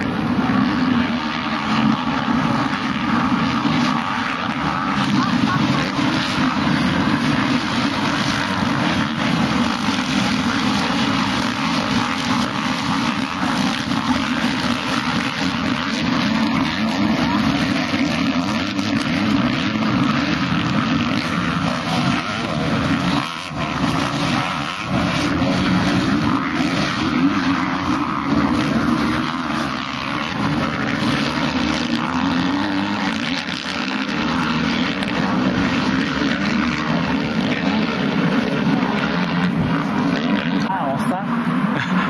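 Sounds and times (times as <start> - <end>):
motocross bike engines racing: 0.0 - 42.0.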